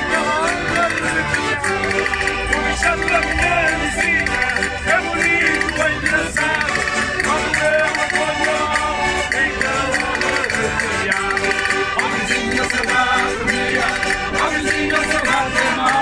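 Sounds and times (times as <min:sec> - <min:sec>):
group singing: 0:00.0 - 0:16.0
instrumental accompaniment: 0:00.0 - 0:16.0.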